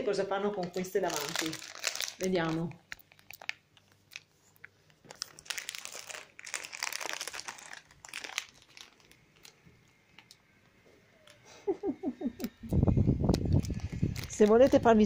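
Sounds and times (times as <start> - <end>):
plastic candy bag crinkling: 0.0 - 10.5, 13.2 - 15.0.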